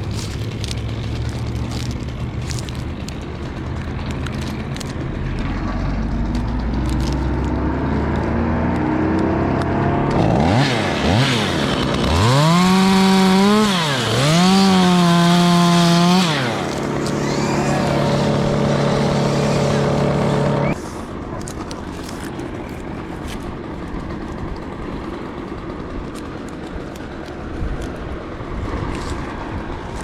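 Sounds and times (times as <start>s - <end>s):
chainsaw revving: 0.0s - 21.0s, 22.1s - 30.0s
low steady engine: 0.0s - 30.0s.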